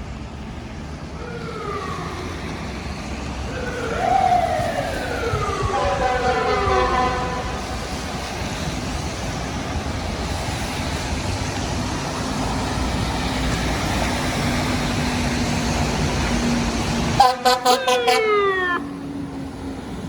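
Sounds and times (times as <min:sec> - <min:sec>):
traffic engine and tyre rumble: 0:00.0 - 0:20.0.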